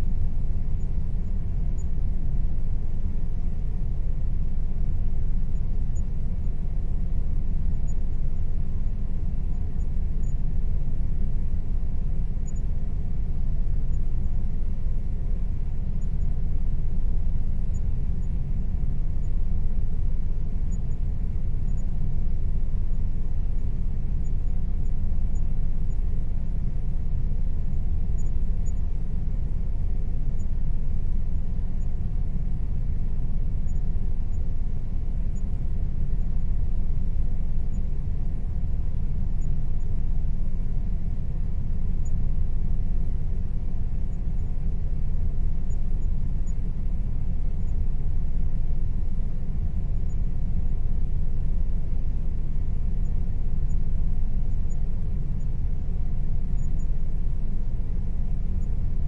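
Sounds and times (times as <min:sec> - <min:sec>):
air conditioner rumbling: 0:00.0 - 0:59.0
faint steady hum: 0:00.0 - 0:59.0.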